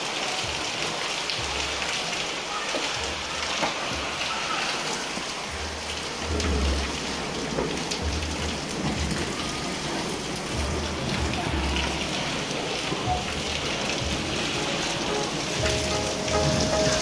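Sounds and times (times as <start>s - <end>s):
rain on paving and roofs: 0.0s - 17.0s.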